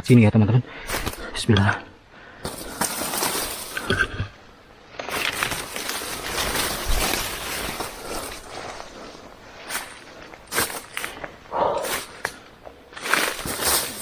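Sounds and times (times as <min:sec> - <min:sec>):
leaves and twigs rustling underfoot: 0:00.8 - 0:01.7, 0:02.4 - 0:14.0.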